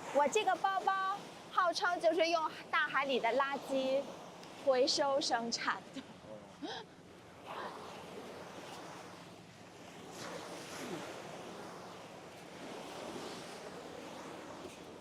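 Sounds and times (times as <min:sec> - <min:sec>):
sea waves washing onto beach: 0:00.0 - 0:15.0.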